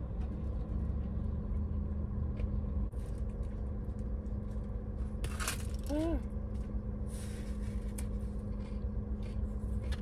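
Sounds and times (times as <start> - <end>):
car cabin engine hum: 0.0 - 10.0.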